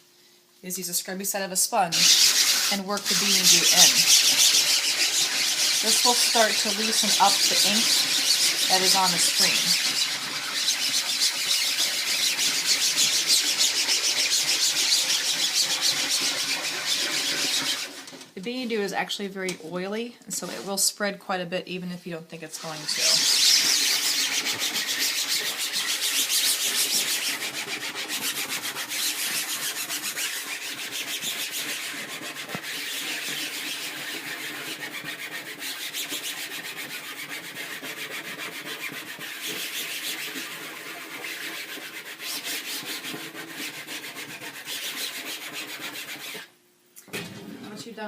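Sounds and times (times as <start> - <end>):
sponge scrubbing a mesh screen: 1.9 - 18.2, 22.6 - 46.5.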